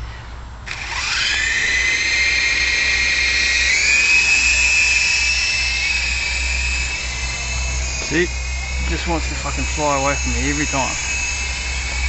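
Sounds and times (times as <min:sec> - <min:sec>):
toy helicopter motor whining: 0:00.7 - 0:12.0.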